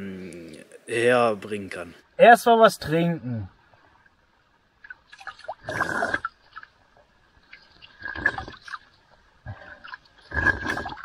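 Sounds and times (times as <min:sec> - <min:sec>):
stream trickling: 0:02.1 - 0:11.0.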